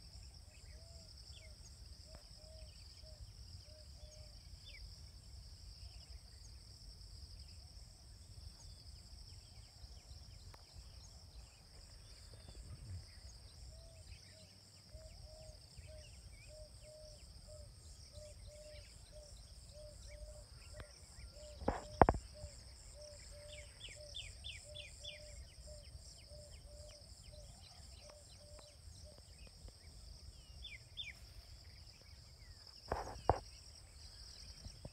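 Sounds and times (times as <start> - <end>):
insects droning: 0.0 - 34.9.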